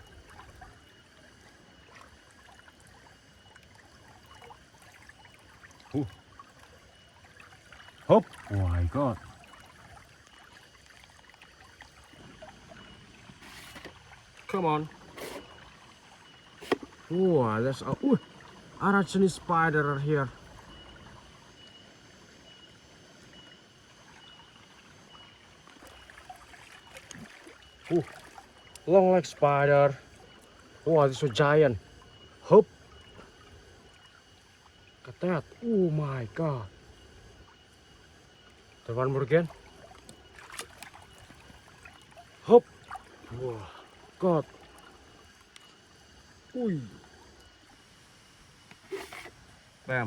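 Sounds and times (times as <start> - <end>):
river water trickling faintly: 0.0 - 50.0.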